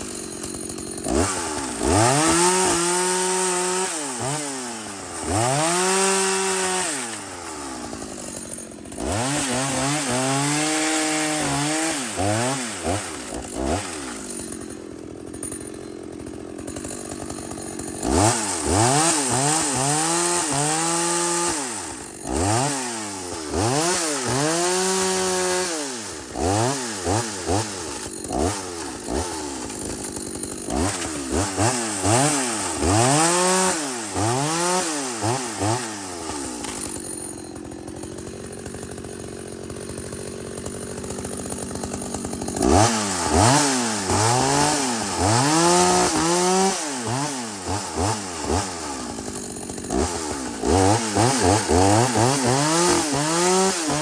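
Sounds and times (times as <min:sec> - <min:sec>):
chainsaw revving: 0:00.0 - 0:54.0.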